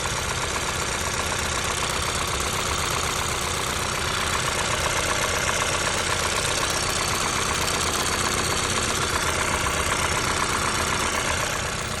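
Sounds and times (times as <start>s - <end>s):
car engine idling: 0.0s - 12.0s
rapid engine knocking: 0.0s - 12.0s.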